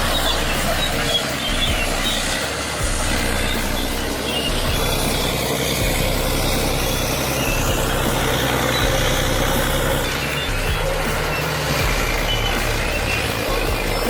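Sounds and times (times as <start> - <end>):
diesel engine drone: 0.0 - 14.0.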